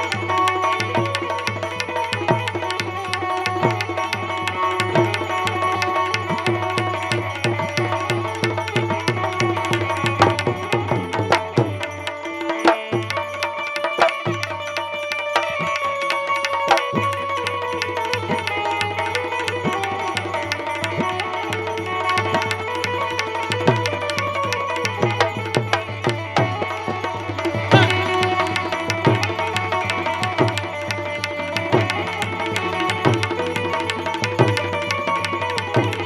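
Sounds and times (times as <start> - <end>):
hand drum rhythm: 0.0 - 36.0
sustained melody tones: 0.0 - 36.0.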